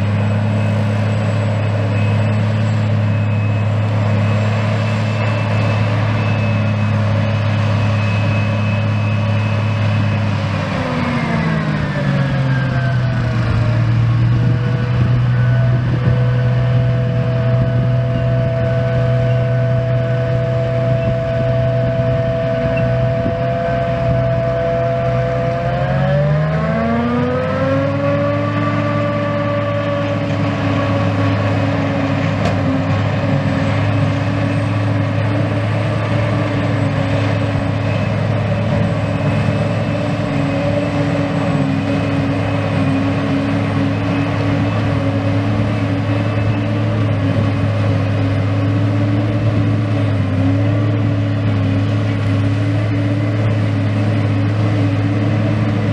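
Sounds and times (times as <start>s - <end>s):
forage harvester drone with whine: 0.0s - 55.9s.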